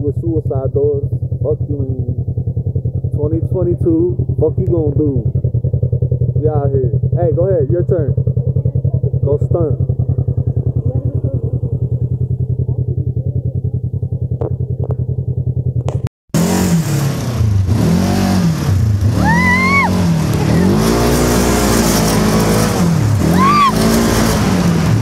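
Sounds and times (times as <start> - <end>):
engine idling and revving: 0.0 - 25.0.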